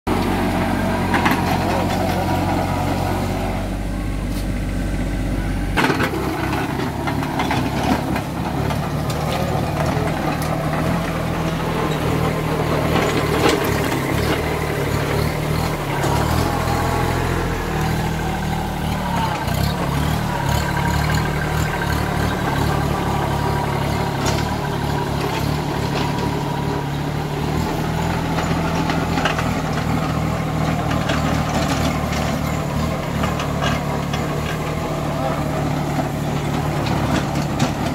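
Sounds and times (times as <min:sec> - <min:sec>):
tractor diesel engine running: 0:00.0 - 0:37.9
rotavator tilling soil: 0:00.1 - 0:37.9.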